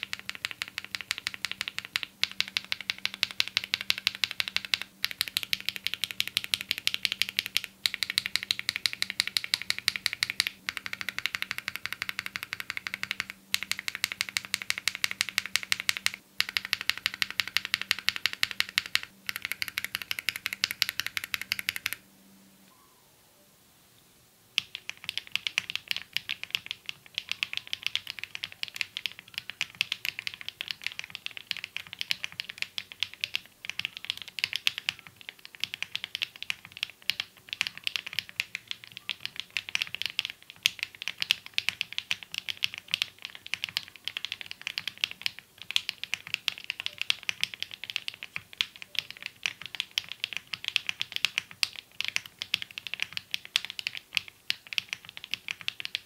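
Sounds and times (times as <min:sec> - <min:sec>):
mechanical keyboard typing: 0:00.0 - 0:22.0, 0:24.6 - 0:56.0.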